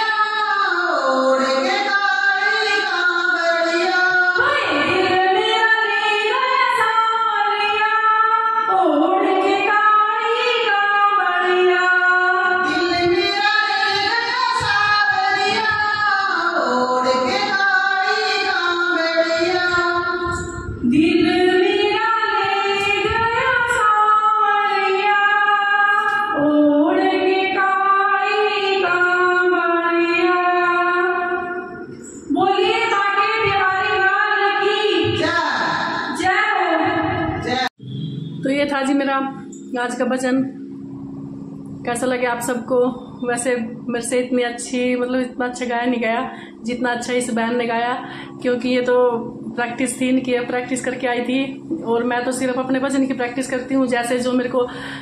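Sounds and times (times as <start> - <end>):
woman singing devotional song: 0.0 - 37.7, 41.8 - 55.0.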